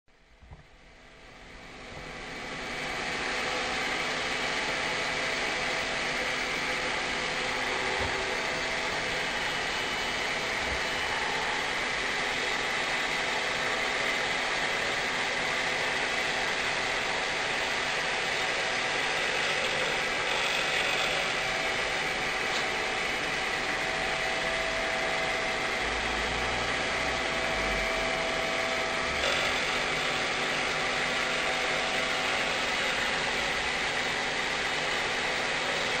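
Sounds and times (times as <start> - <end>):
cnc router spindle whine: 0.1 - 36.0.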